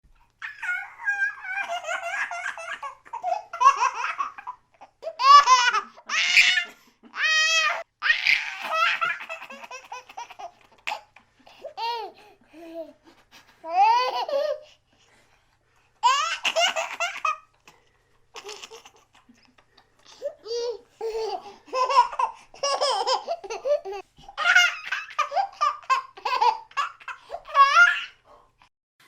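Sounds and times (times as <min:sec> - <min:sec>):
baby laughing: 0:00.4 - 0:13.0, 0:13.6 - 0:14.7, 0:16.0 - 0:17.6, 0:18.3 - 0:28.2.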